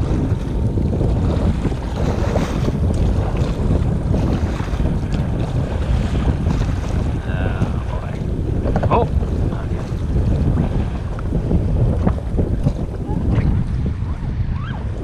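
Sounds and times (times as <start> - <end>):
strong wind buffeting microphone: 0.0 - 15.0
water splashing around kayak: 0.0 - 15.0.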